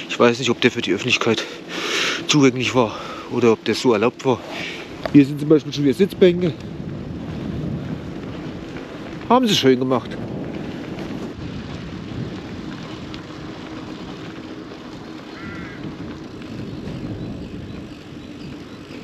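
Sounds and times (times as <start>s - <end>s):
bicycle rolling on pavement: 0.0s - 19.0s
wind buffeting microphone: 0.0s - 19.0s.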